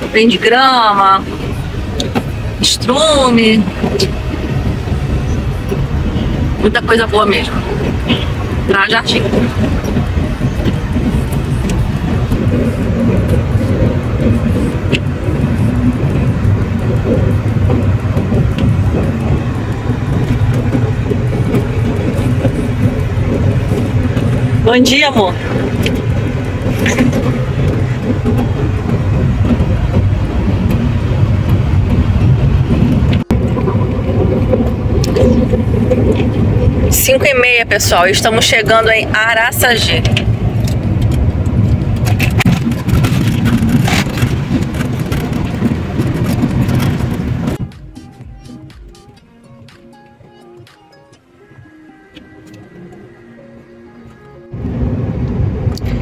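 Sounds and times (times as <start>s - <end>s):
car road noise on wet road: 0.0s - 56.0s
engine and tyre rumble: 0.0s - 56.0s.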